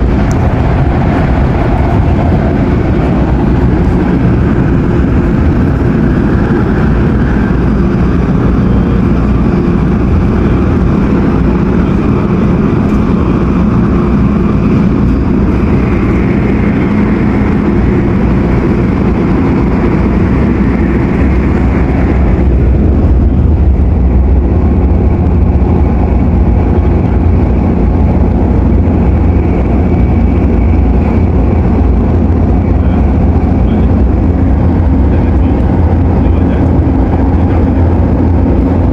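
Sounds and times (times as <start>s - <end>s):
train wheels rumbling: 0.0s - 38.9s.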